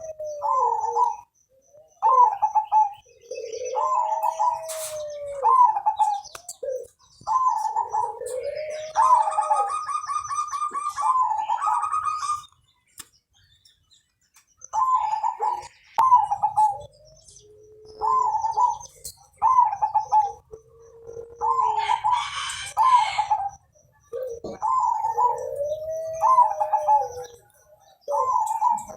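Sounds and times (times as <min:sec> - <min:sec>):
dove cooing: 0:00.0 - 0:12.6, 0:14.7 - 0:28.9.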